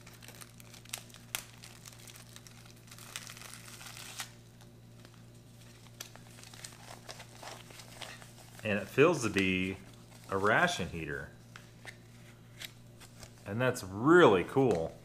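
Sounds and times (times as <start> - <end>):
plastic and paper wrappers crinkling: 0.0 - 13.5.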